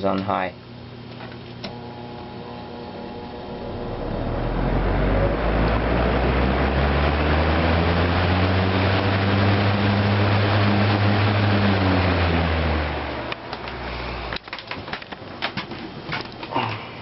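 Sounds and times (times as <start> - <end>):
box fan motor hum: 0.0 - 17.0.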